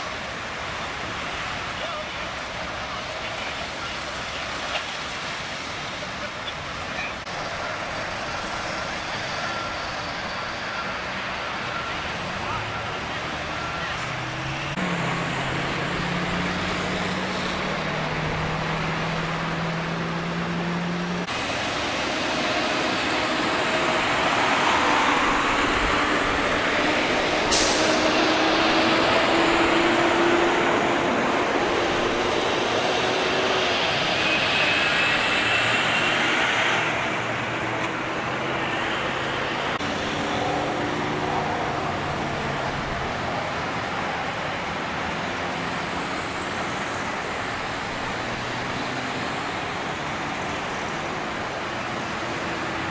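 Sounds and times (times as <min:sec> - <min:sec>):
freeway traffic noise: 0:00.0 - 0:52.9
truck passing close: 0:02.4 - 0:52.9
vehicle engine droning: 0:07.2 - 0:52.9.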